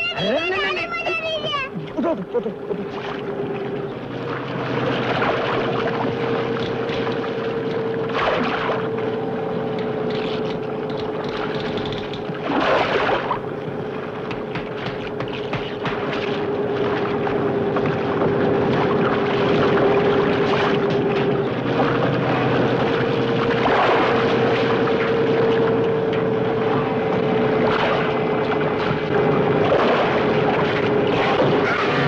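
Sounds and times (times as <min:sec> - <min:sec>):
boat engine running: 0:00.0 - 0:32.0
constant rushing noise: 0:00.0 - 0:32.0.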